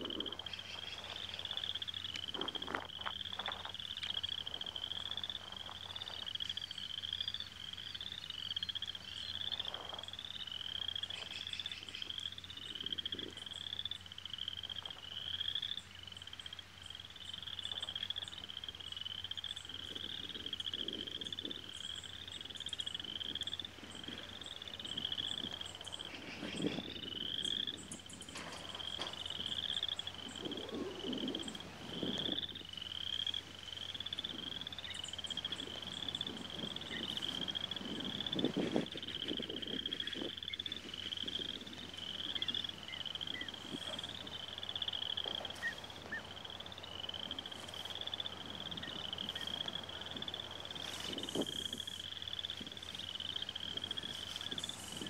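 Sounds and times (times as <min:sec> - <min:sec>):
faint high ticking calls: 0:00.0 - 0:55.0
frogs chirping: 0:00.0 - 0:55.0.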